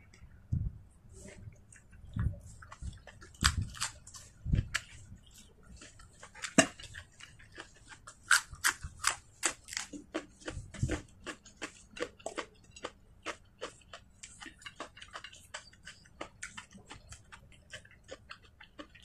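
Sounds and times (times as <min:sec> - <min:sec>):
chewing mouth smacks: 0:01.7 - 0:19.0.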